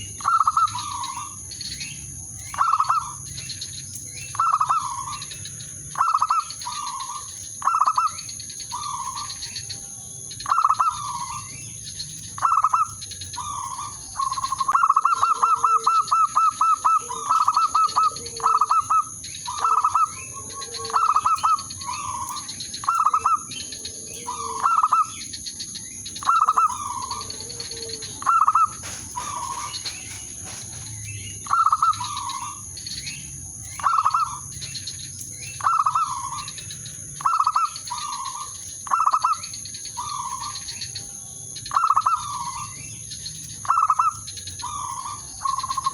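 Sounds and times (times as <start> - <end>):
dove cooing: 0.0 - 1.9, 2.6 - 3.4, 4.3 - 11.6, 12.4 - 34.8, 35.6 - 40.8, 41.7 - 42.9, 43.6 - 45.9
steady high-pitched whine: 0.0 - 45.9.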